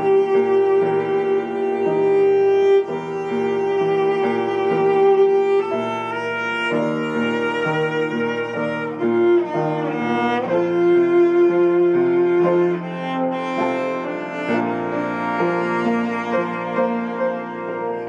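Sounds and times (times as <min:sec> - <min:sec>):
cello playing hymn melody: 0:00.0 - 0:18.0
upright piano accompaniment: 0:00.0 - 0:18.0.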